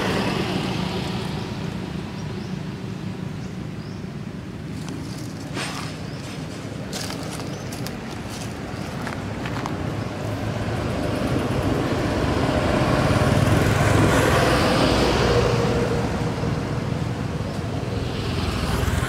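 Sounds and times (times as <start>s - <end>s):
vehicle passing by: 0.0s - 4.0s, 4.6s - 19.0s.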